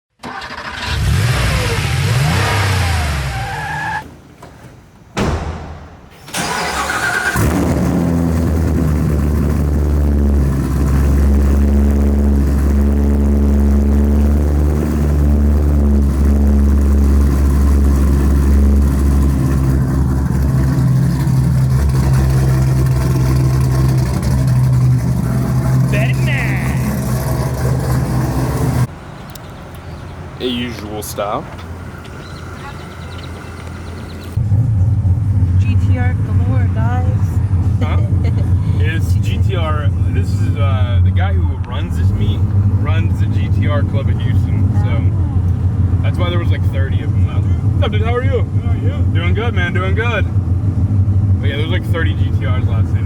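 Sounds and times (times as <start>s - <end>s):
car engines revving and accelerating: 0.8s - 3.6s, 7.1s - 28.9s, 32.5s - 53.0s
low engine drone: 5.4s - 30.8s, 31.4s - 53.0s.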